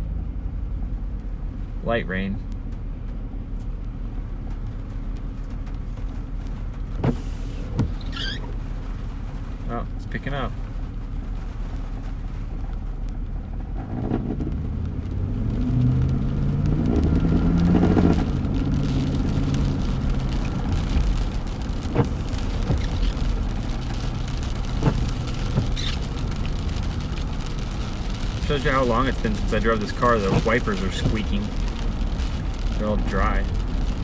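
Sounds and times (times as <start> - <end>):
car engine and road hum: 0.0 - 34.0
wiper blades squeaking and thumping: 2.6 - 32.8.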